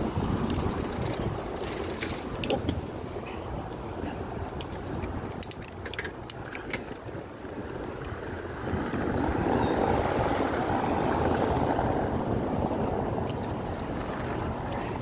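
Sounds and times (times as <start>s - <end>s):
low street hum: 0.0s - 15.0s.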